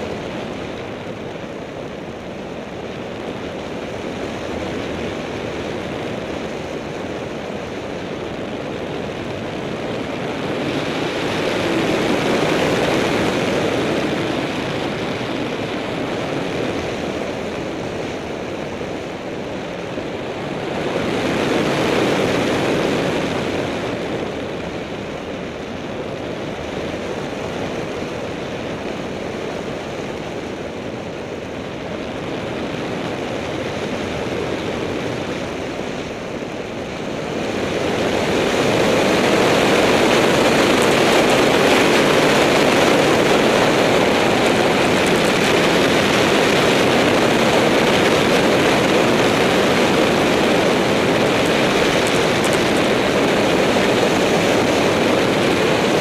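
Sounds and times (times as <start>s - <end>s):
propeller plane engine droning: 0.0s - 56.0s
wind rushing over camera: 0.0s - 56.0s.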